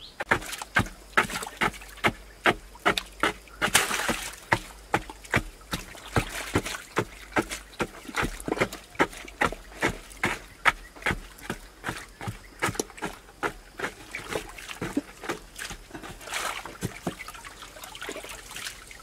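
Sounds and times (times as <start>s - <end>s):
digging tool chopping earth: 0.1s - 17.2s.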